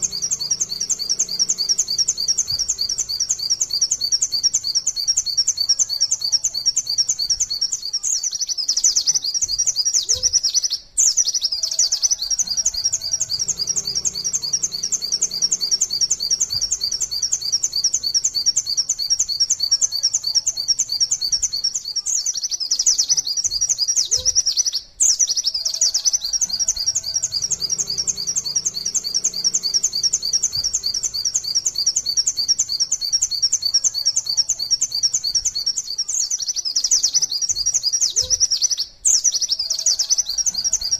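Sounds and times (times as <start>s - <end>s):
bird singing rapid high notes: 0.0s - 40.9s.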